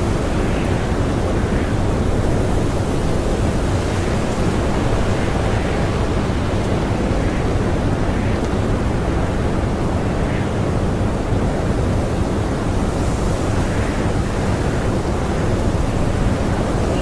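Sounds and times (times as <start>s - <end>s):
blizzard wind blowing hard: 0.0s - 17.0s.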